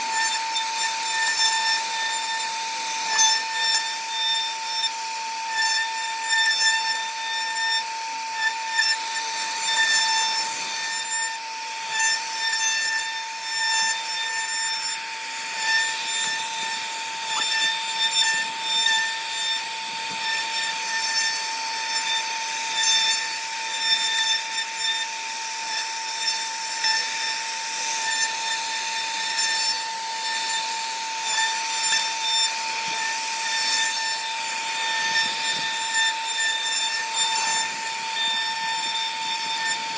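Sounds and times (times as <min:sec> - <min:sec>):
bit rasping through wood: 0:00.0 - 0:39.9
router spindle whining: 0:00.0 - 0:39.9.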